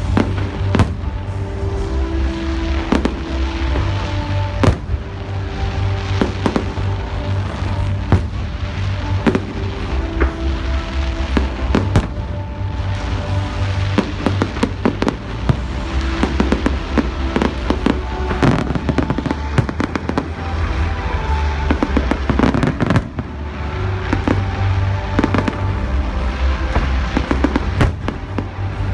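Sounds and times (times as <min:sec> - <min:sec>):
fireworks bangs and crackles: 0:00.0 - 0:28.9
loud music with heavy bass: 0:00.0 - 0:28.9.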